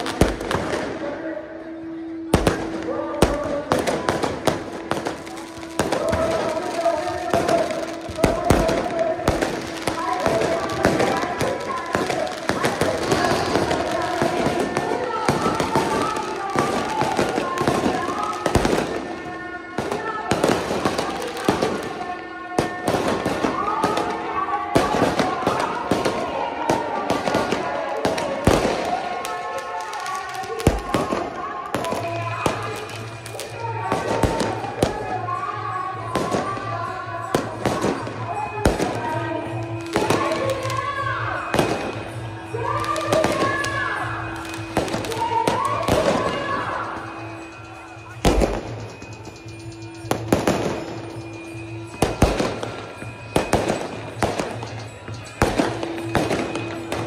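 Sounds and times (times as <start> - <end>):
fireworks banging: 0.0 - 57.0
large crowd noise: 0.0 - 57.0.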